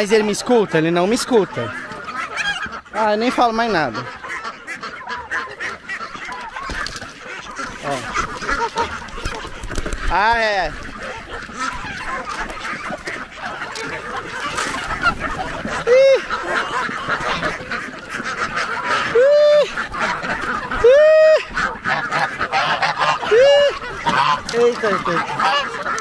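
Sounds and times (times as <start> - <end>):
flock of poultry calling: 0.0 - 26.0
geese honking: 0.0 - 26.0.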